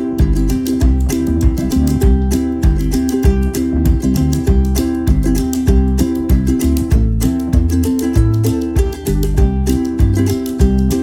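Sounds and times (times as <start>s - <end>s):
bass line: 0.0s - 11.0s
plucked acoustic guitar: 0.0s - 11.0s.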